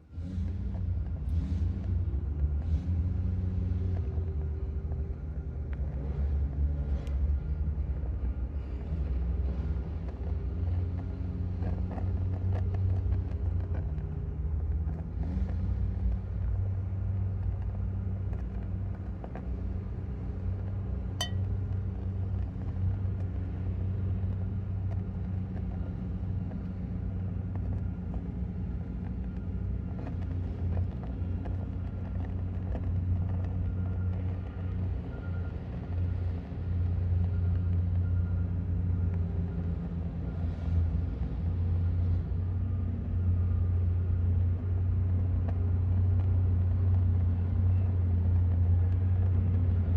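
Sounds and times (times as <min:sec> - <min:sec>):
machinery rumbling and humming: 0:00.0 - 0:49.9.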